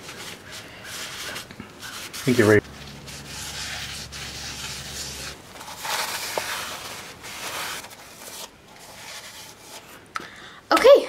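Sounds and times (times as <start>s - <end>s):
scouring pad scrubbing metal: 0.1s - 9.9s.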